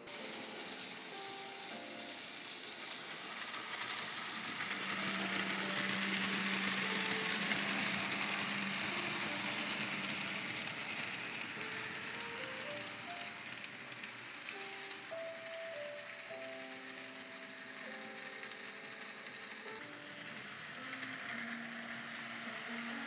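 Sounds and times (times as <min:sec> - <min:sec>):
model train whirring on track: 0:00.0 - 0:23.0.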